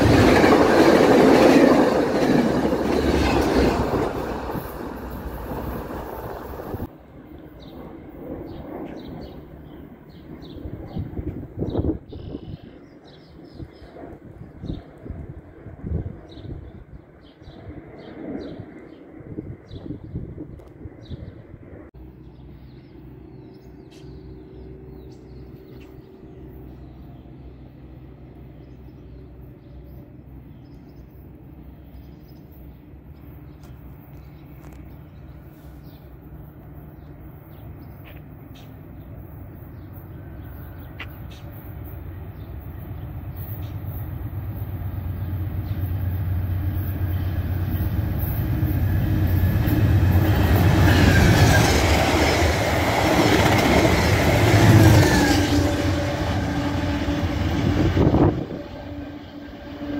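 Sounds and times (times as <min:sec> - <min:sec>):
diesel train approaching: 0:00.0 - 0:59.9.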